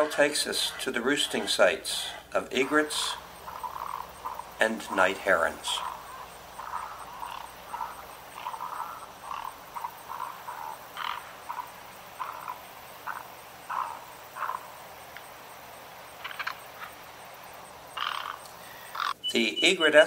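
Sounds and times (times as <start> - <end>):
short croaking animal calls: 0.0 - 19.7.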